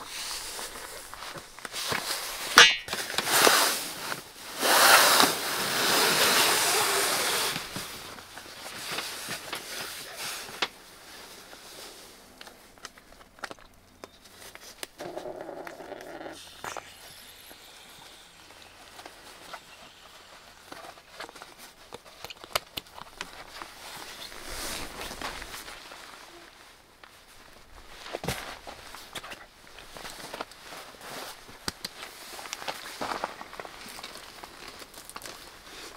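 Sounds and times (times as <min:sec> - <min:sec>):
nylon rustling: 0:00.0 - 0:35.9.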